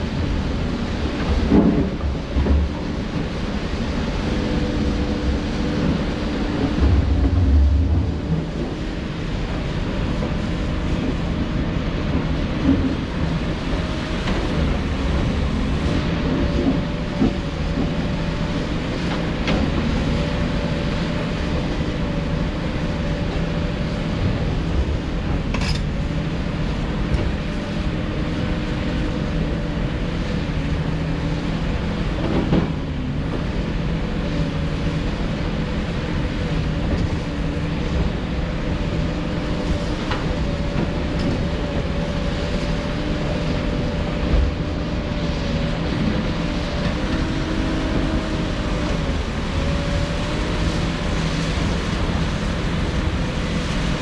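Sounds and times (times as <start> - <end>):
diesel machinery engine drone: 0.0 - 54.0.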